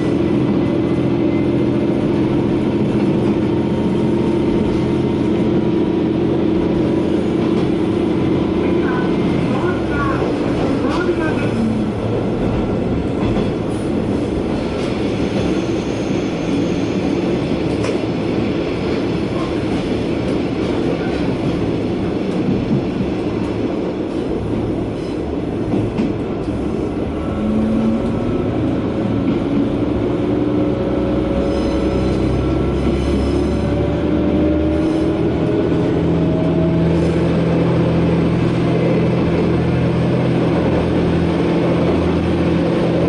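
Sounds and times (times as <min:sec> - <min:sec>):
railcar engine rumble: 0:00.0 - 0:43.0
wheels on rail: 0:00.0 - 0:43.0.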